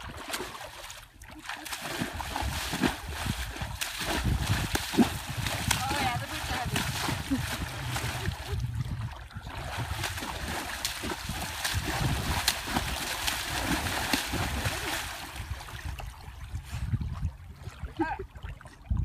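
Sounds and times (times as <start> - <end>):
horse pawing splashing water: 0.0 - 16.4.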